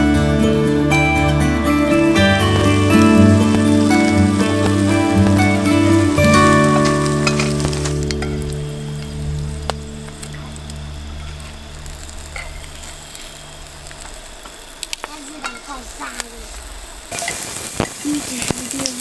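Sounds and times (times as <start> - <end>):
food sizzling in a pan: 1.7 - 19.0.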